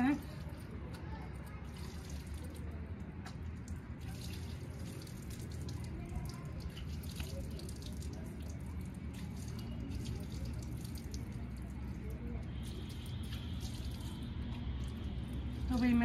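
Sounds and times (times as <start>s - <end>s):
water pouring from a jug: 0.0s - 16.0s
water splashing and dripping: 0.0s - 16.0s.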